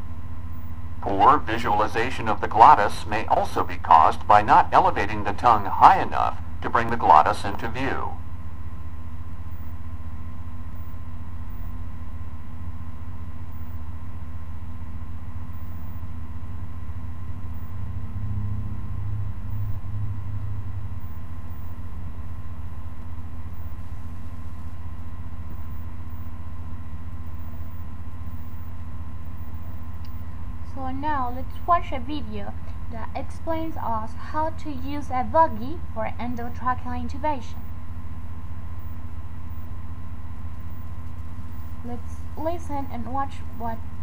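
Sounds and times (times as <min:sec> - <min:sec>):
faint high whine: 0:00.0 - 0:44.0
low machine hum: 0:00.0 - 0:44.0.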